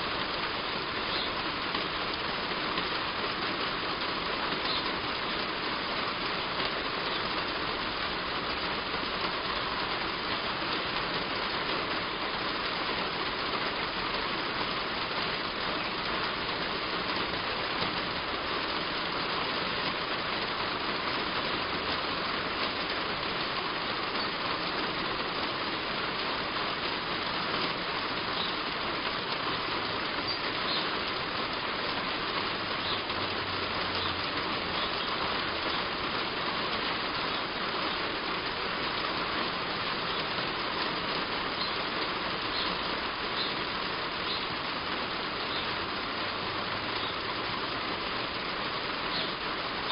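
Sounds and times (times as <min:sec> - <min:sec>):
heavy rain on a roof: 0:00.0 - 0:49.9.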